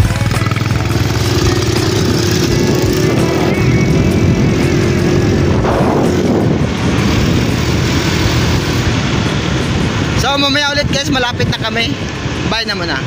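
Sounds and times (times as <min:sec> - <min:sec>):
motorcycle engine drone: 0:00.0 - 0:13.0
road noise: 0:00.0 - 0:13.0.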